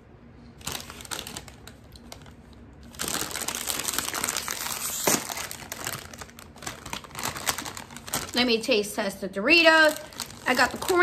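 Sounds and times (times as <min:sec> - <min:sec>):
foil bag crinkling: 0:00.6 - 0:11.0.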